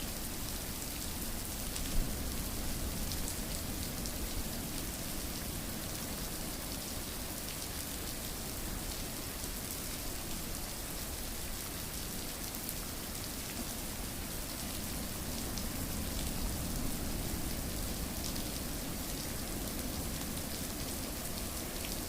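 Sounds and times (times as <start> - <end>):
rain pattering: 0.1 - 22.0.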